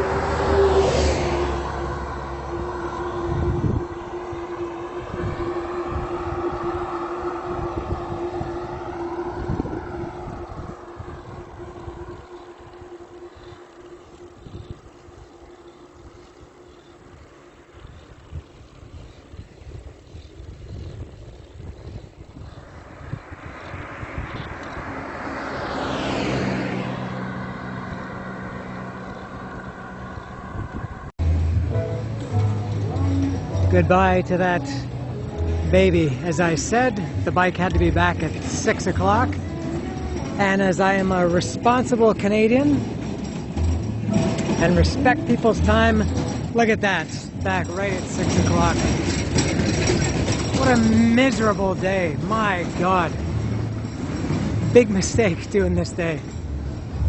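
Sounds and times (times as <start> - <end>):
vehicle engine driving away: 0.0 - 57.0
wind buffeting microphone: 0.0 - 57.0.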